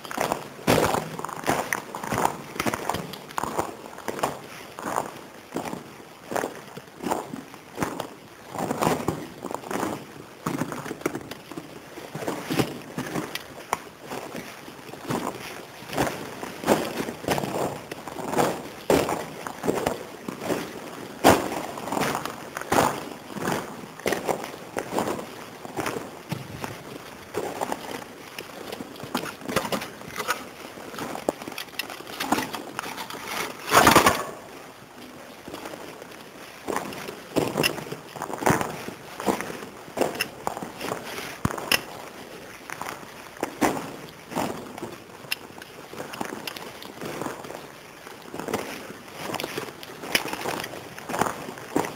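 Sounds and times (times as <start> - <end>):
footsteps in tunnel: 0.0 - 51.9.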